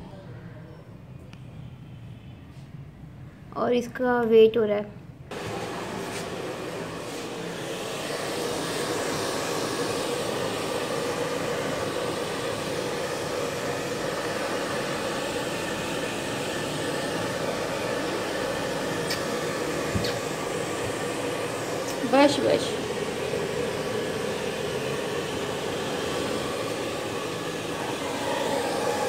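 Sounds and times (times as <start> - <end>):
hair dryer running: 5.3 - 29.0.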